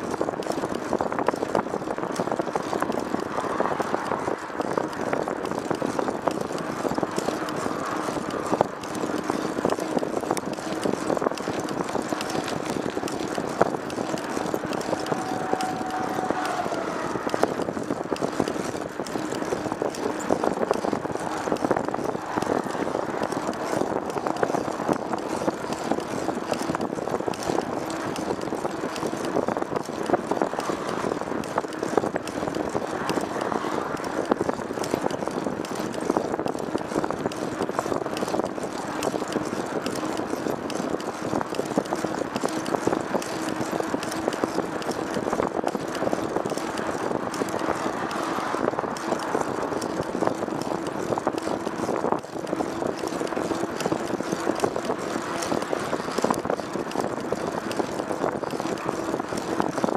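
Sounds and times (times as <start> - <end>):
vehicle running with rattle: 0.0 - 59.9.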